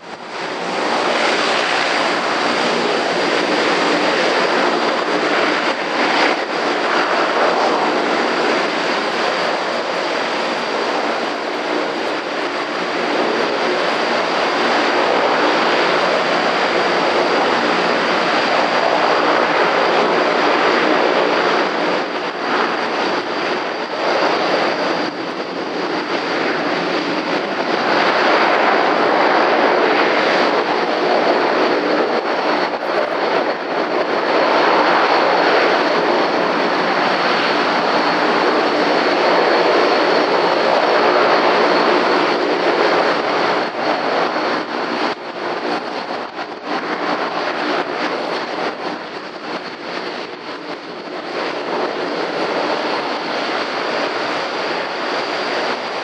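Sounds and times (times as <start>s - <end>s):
constant high engine whine: 0.0s - 56.0s
turboprop engines droning: 0.0s - 56.0s.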